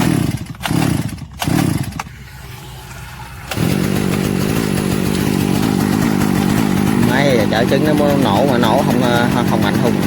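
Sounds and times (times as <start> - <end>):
small petrol engine pull-started: 0.0 - 10.0.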